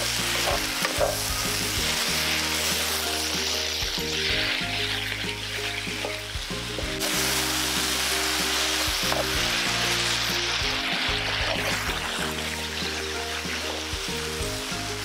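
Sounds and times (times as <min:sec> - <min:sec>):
background music: 0:00.0 - 0:15.0
food sizzling in a wok: 0:00.0 - 0:15.0.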